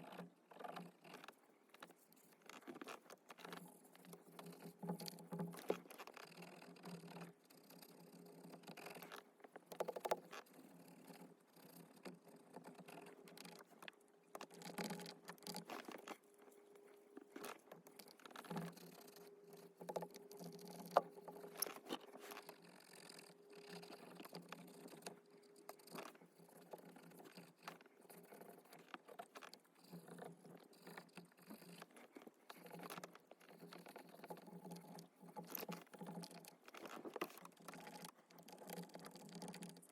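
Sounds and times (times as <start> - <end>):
small clicks: 0.0 - 39.9.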